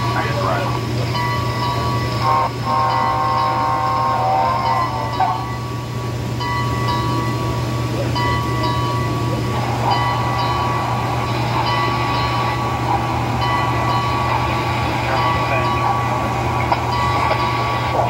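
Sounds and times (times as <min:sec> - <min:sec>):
steady hum: 0:00.0 - 0:18.0
steam locomotive sounds from speaker: 0:00.0 - 0:18.0.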